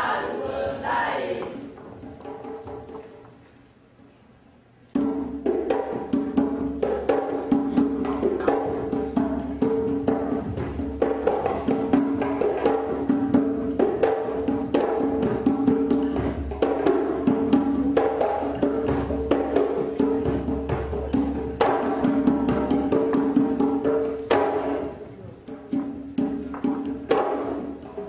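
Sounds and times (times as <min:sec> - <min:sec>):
drums: 0:04.9 - 0:28.0.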